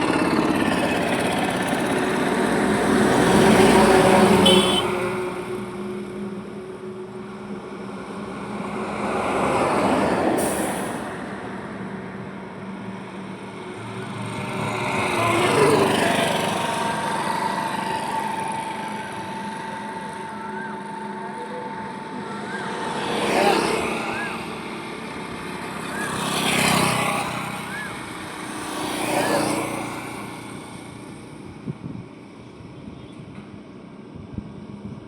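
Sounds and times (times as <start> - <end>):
steady traffic rumble: 0.0 - 35.0
vehicles passing: 0.0 - 35.0.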